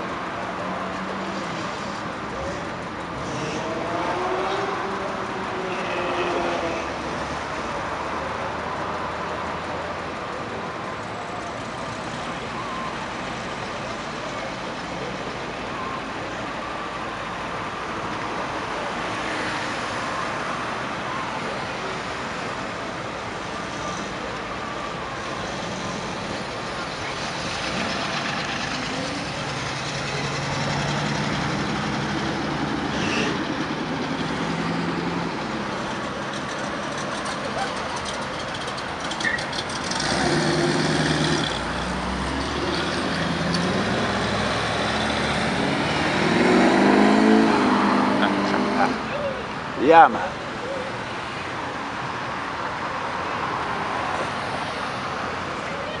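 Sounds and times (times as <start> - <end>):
cars driving past: 0.0 - 56.0.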